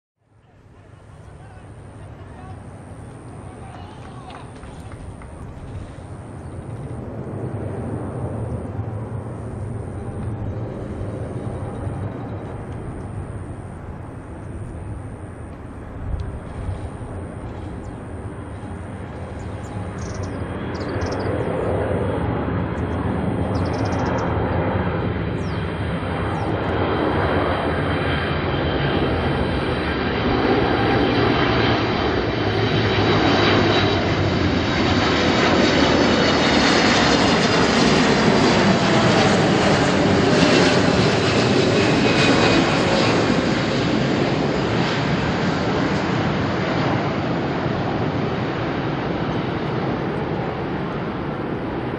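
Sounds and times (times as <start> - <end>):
jet engine roar with fan whine: 0.2 - 51.9.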